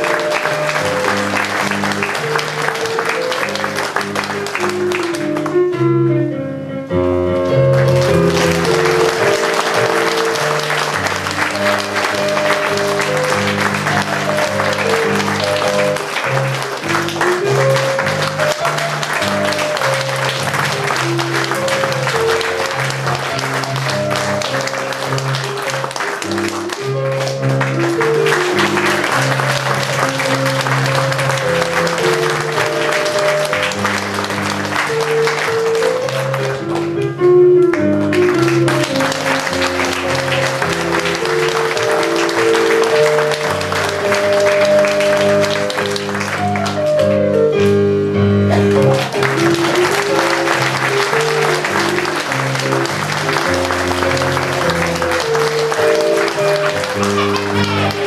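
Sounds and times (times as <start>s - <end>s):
audience applauding: 0.0s - 5.7s, 7.4s - 37.0s, 37.6s - 47.8s, 48.4s - 58.0s
music: 0.0s - 58.0s.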